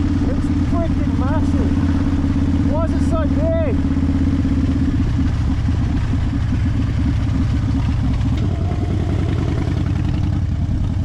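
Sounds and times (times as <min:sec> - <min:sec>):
motorcycle engine deep rumble: 0:00.0 - 0:11.0.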